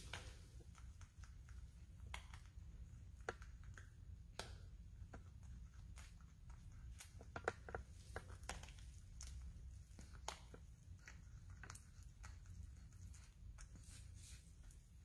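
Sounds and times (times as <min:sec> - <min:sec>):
animal chewing with crunching clicks: 0:00.0 - 0:15.0
low steady hum: 0:00.0 - 0:15.0.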